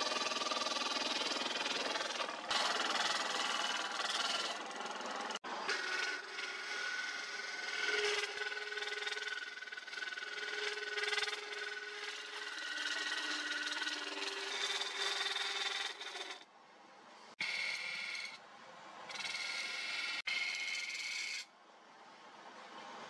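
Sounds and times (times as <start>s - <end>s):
chisel scraping wood on lathe: 0.0s - 16.5s, 17.4s - 18.4s, 19.1s - 21.5s.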